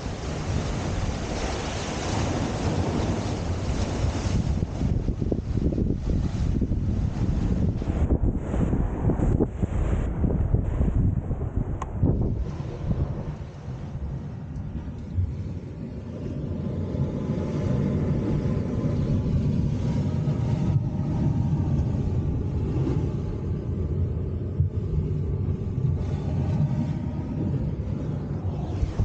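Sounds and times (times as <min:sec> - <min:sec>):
sea washing over rocks: 0:00.0 - 0:23.8
wind on microphone: 0:00.0 - 0:29.0.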